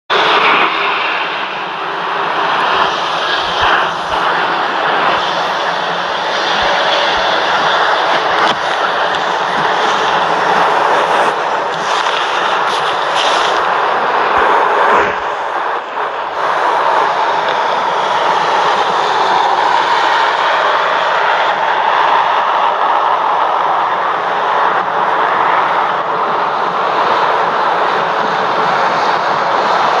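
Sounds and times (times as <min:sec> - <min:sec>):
jet engines rushing: 0:00.1 - 0:30.0.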